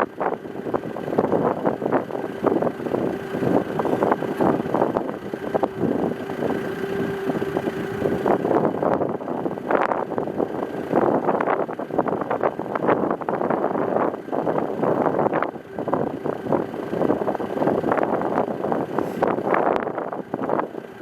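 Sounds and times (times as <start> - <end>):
wind buffeting microphone: 0.1 - 21.0.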